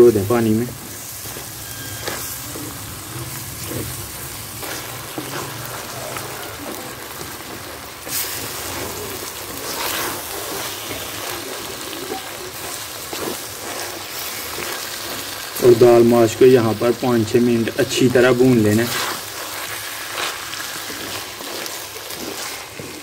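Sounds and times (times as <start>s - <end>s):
lentils sizzling in oil: 0.0s - 23.0s
wooden spoon scraping: 0.7s - 15.3s, 18.4s - 23.0s.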